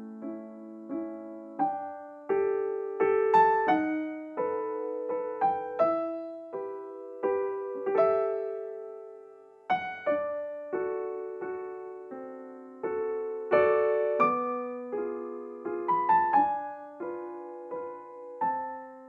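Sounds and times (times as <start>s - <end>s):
gentle solo piano: 0.0s - 19.0s.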